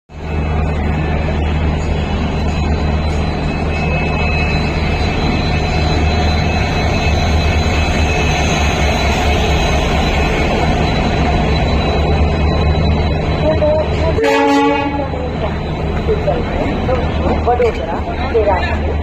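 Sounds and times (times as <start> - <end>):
diesel locomotive engine drone: 0.1 - 19.0.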